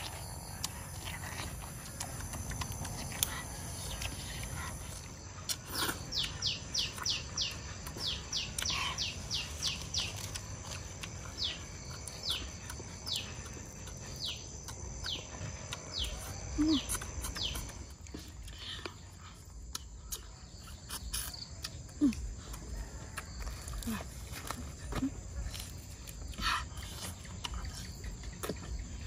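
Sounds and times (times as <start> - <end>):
high insect drone: 0.0 - 29.0.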